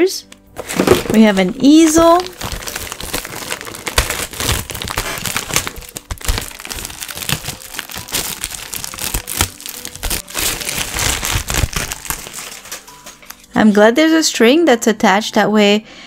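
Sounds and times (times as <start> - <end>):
plastic wrap crinkling: 0.5 - 13.6.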